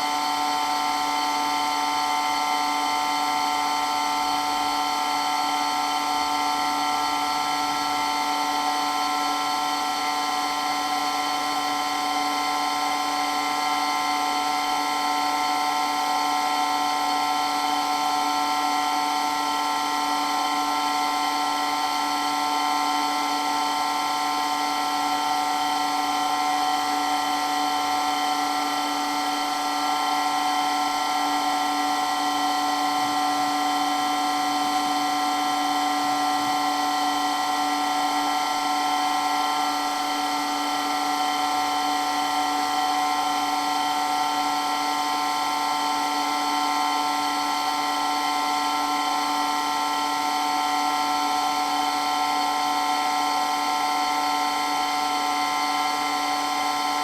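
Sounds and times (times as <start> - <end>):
water pump whine: 0.0 - 57.0.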